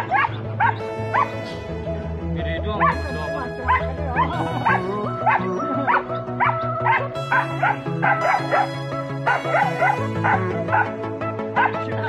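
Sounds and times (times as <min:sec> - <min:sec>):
hunting dogs barking: 0:00.0 - 0:01.7, 0:02.8 - 0:12.0
background music with bass line: 0:00.0 - 0:12.0.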